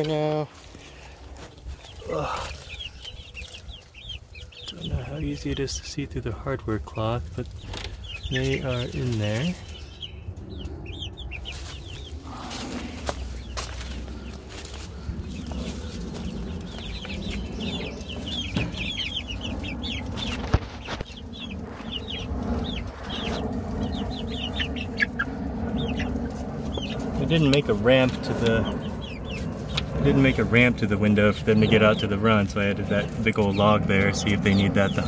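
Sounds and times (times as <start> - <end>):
young chickens peeping: 0.0 - 35.0.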